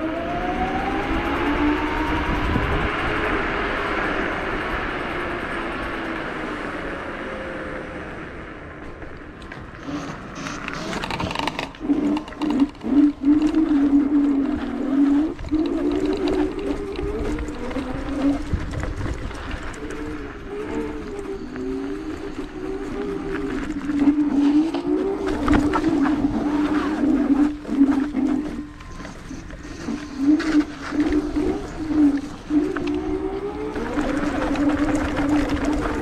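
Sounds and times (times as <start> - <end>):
electric scooter motor whine: 0.0 - 36.0
wind noise: 0.0 - 36.0.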